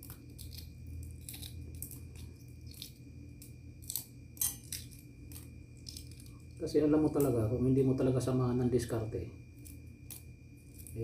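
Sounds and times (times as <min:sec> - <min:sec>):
egg shell cracking: 0:00.0 - 0:07.4, 0:09.6 - 0:11.0
steady low hum: 0:00.0 - 0:11.0.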